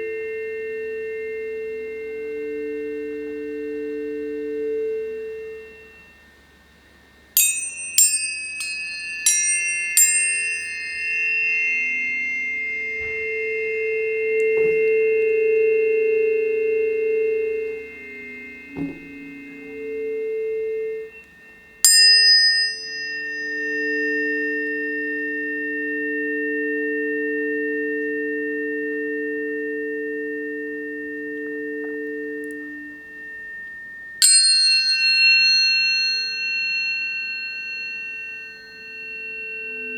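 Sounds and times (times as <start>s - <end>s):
low sustained tones: 0.0s - 39.9s
tuning forks struck and ringing: 0.0s - 39.9s.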